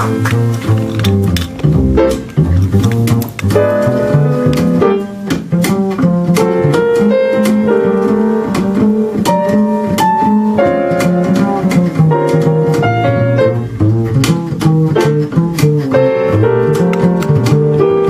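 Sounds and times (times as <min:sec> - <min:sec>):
double bass plucked: 0:00.0 - 0:18.0
piano chords: 0:00.0 - 0:18.0.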